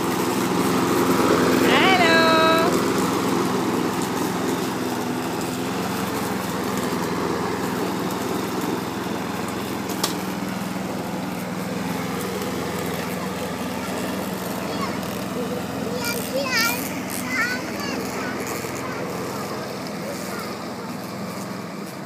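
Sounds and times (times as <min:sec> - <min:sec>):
lawn mower running: 0:00.0 - 0:22.0.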